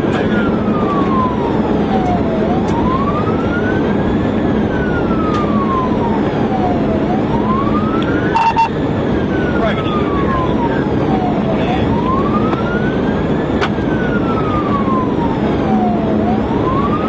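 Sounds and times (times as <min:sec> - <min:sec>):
police siren wailing: 0:00.0 - 0:17.0
road and engine noise: 0:00.0 - 0:17.0.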